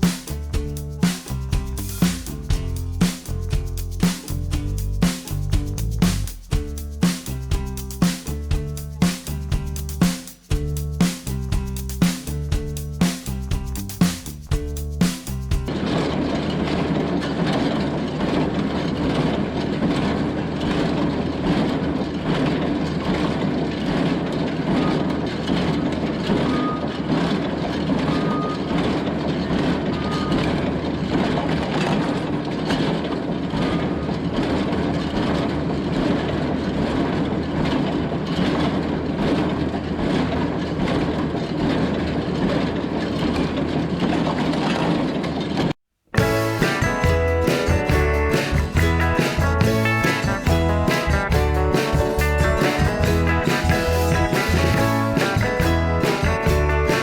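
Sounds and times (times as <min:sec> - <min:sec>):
tractor engine running: 0:00.0 - 0:45.1, 0:46.2 - 0:57.0.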